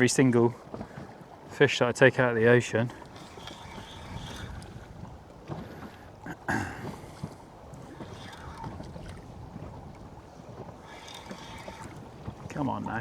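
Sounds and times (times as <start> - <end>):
sea noise: 0.0 - 13.0
wind: 0.0 - 13.0.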